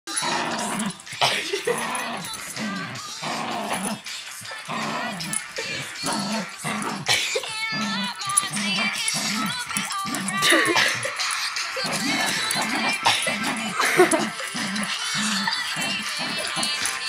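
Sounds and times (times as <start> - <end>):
dog growling playfully: 0.1 - 17.0.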